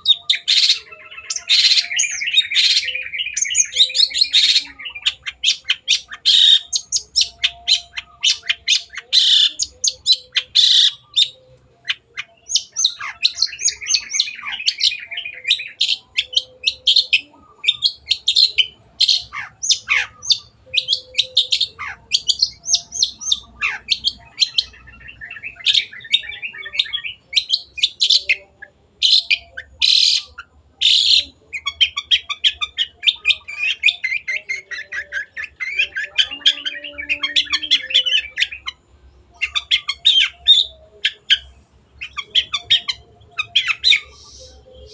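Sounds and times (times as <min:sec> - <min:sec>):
bird singing harsh chattering notes: 0:00.0 - 0:44.9.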